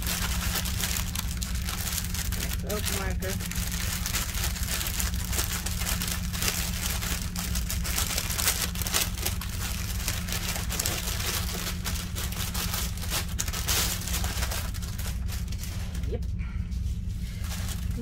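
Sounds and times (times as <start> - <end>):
plastic packaging crinkling: 0.0 - 16.2, 17.3 - 18.0
steady low hum: 0.0 - 18.0.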